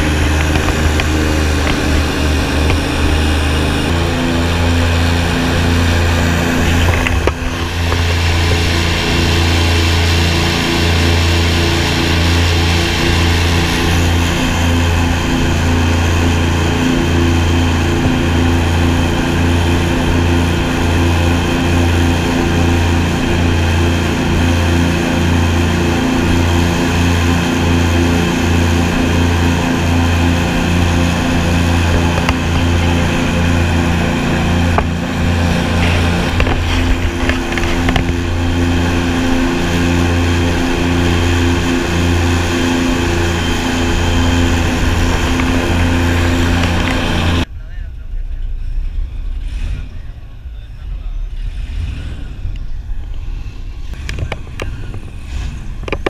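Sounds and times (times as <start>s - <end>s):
airboat engine and propeller droning: 0.0s - 56.0s.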